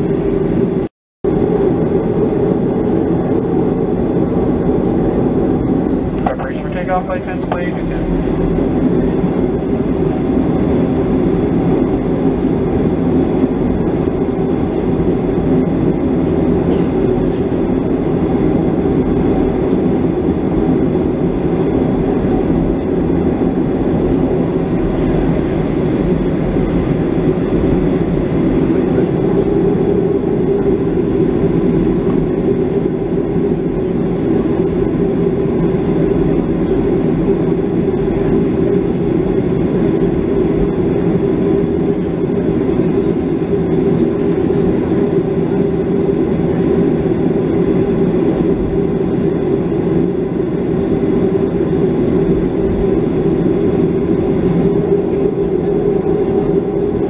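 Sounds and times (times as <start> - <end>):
airplane cabin taxiing rumble: 0.0 - 57.0.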